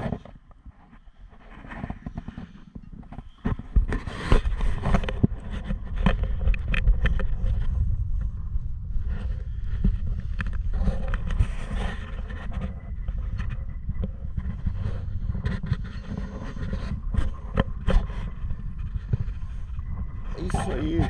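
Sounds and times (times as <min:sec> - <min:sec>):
knocks and scrapes: 0:00.0 - 0:21.0
wind buffeting microphone: 0:01.4 - 0:21.0.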